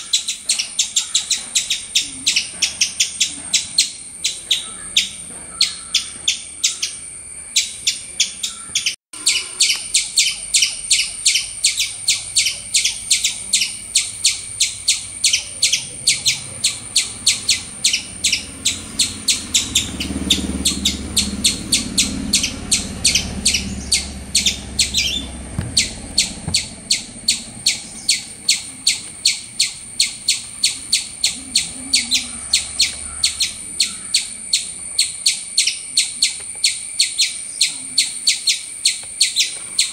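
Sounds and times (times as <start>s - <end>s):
squirrel chirping: 0.0s - 39.9s.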